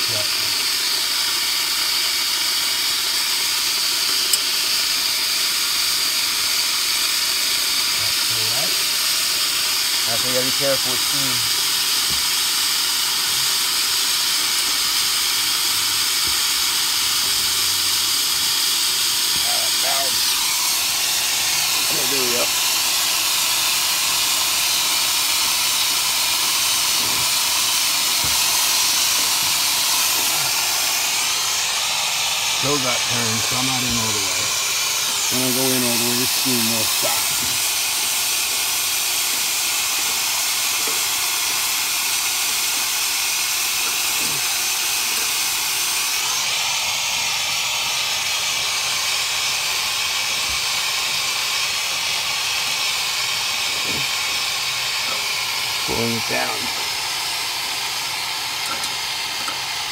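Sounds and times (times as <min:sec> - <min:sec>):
steam hissing from radiator vent: 0:00.0 - 0:59.9.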